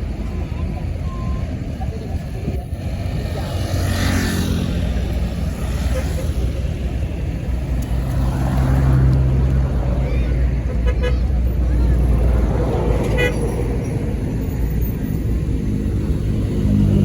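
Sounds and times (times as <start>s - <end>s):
bus engine humming: 0.0s - 17.0s
passing vehicle rush: 0.0s - 17.0s.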